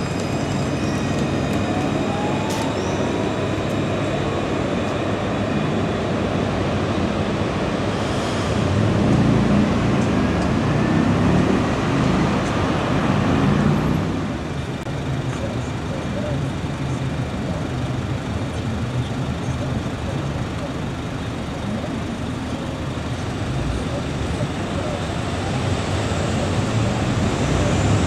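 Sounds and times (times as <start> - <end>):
street traffic rumble: 0.0 - 28.0.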